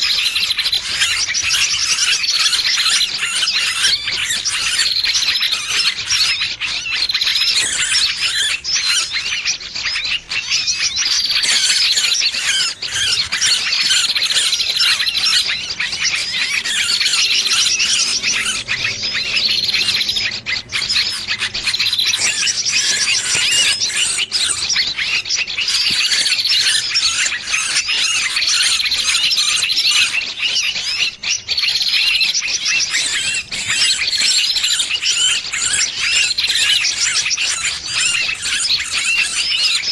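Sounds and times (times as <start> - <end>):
small birds distress calls: 0.0 - 39.9.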